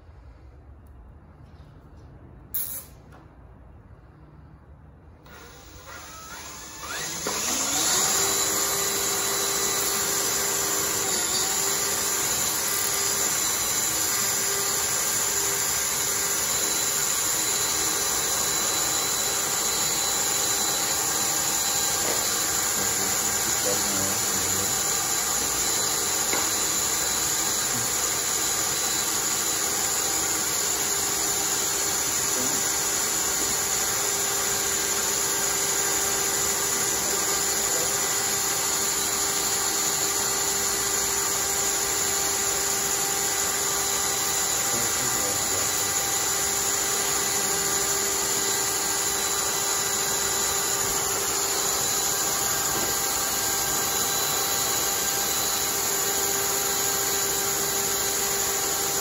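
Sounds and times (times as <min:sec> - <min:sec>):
cordless drill motor whine: 0:05.2 - 0:59.0.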